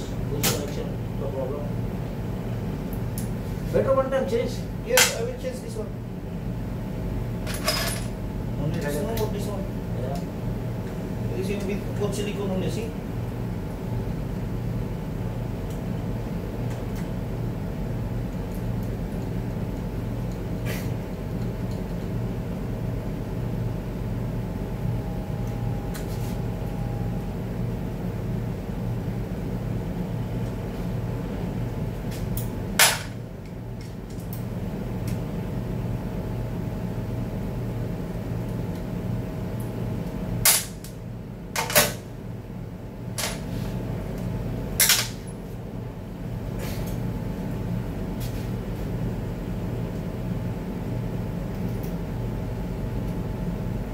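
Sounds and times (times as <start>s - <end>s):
low workshop hum: 0.0s - 53.9s.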